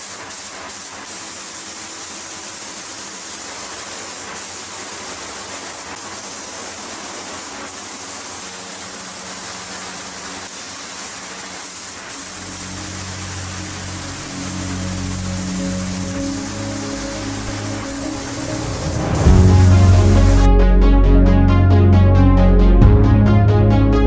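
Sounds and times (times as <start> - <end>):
paint spraying hiss: 0.0 - 20.5.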